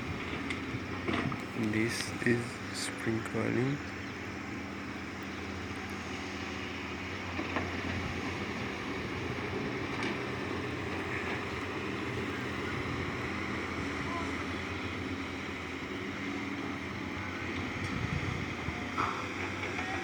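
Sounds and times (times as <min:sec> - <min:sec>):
water pump engine running: 0:00.0 - 0:20.0.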